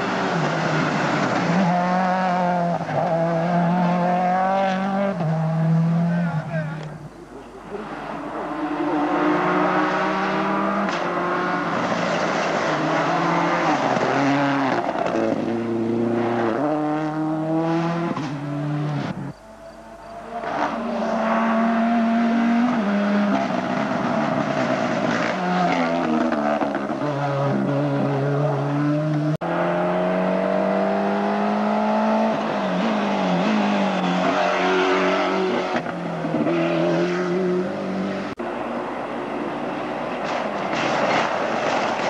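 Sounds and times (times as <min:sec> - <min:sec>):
rally car engine revving: 0:00.0 - 0:06.9, 0:07.6 - 0:38.5.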